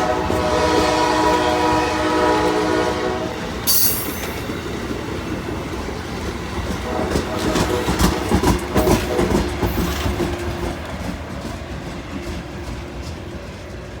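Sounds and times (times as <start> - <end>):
passenger train passing: 0.0 - 14.0.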